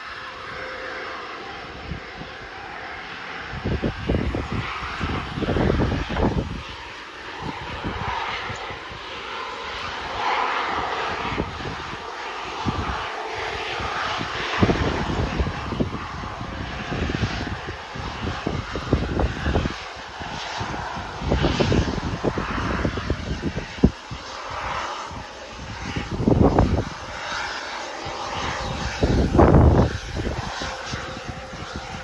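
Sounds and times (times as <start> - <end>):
jet engines whining: 0.0 - 32.0
wind buffeting microphone: 0.0 - 32.0.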